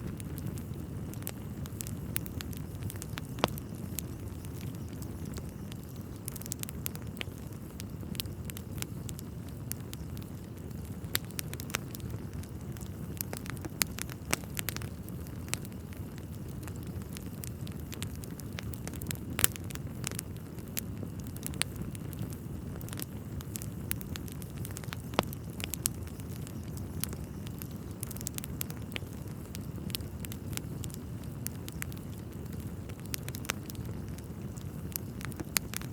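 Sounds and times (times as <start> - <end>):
wood fire crackling and popping: 0.0 - 35.9.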